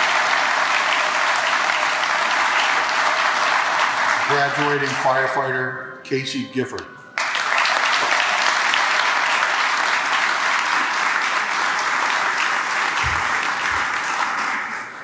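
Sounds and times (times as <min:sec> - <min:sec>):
audience applauding: 0:00.0 - 0:05.6, 0:07.2 - 0:15.0.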